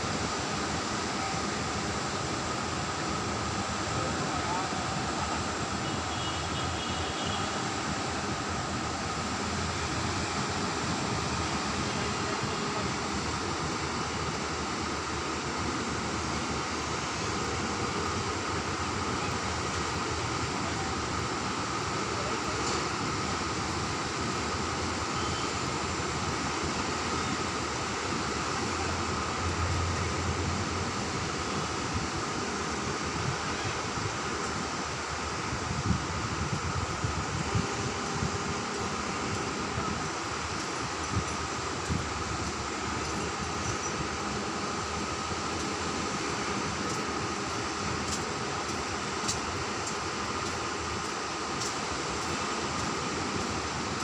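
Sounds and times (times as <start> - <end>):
sea surf on beach: 0.0 - 54.0.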